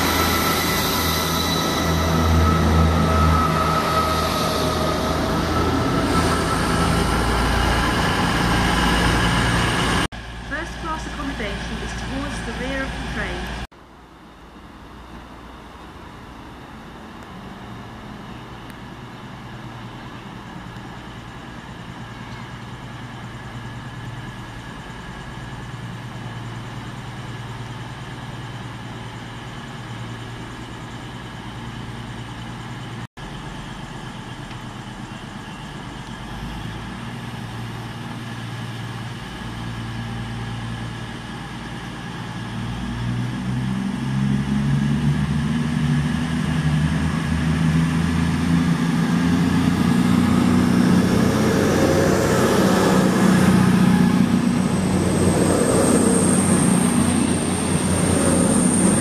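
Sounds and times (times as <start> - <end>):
train diesel engine drone: 0.0 - 59.0.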